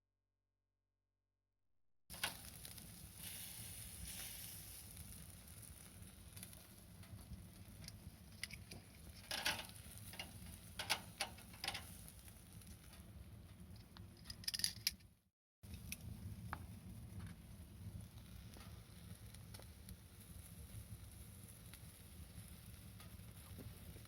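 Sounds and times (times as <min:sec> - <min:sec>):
wood fire crackling: 0:02.1 - 0:14.5, 0:15.6 - 0:24.0.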